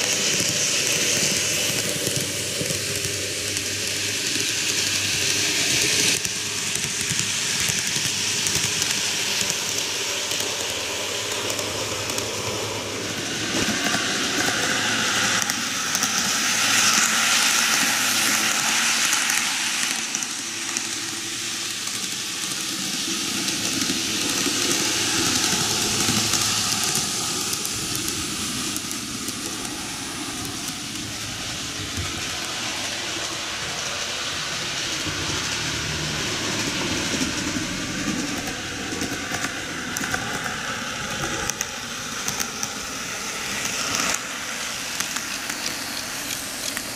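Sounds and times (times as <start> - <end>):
model trains whirring on rails: 0.0 - 46.9.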